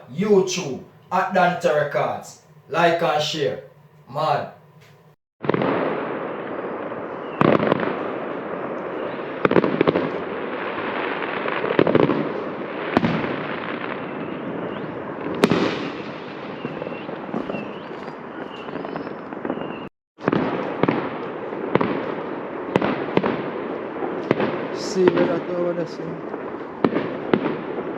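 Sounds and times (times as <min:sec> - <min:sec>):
fireworks crackle and rumble: 0:00.0 - 0:27.9
fireworks bangs: 0:05.4 - 0:27.9.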